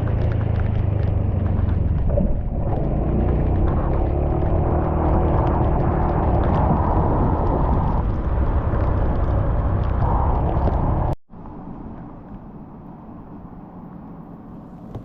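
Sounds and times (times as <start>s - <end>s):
wind buffeting microphone: 0.0s - 12.8s
scooter motor and tyre rumble: 0.0s - 15.0s.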